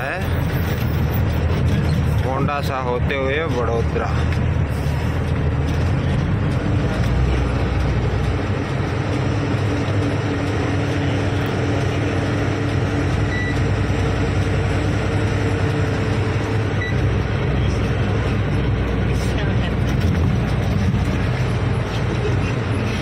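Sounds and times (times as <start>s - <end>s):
diesel engine running: 0.0s - 23.0s
road noise: 0.0s - 23.0s.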